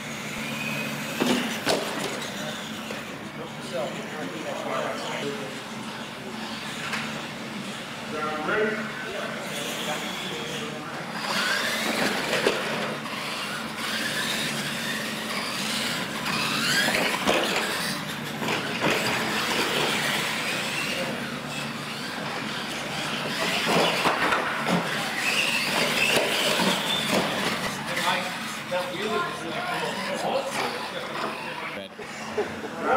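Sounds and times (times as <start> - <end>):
toy truck motors whining: 0.0 - 32.9.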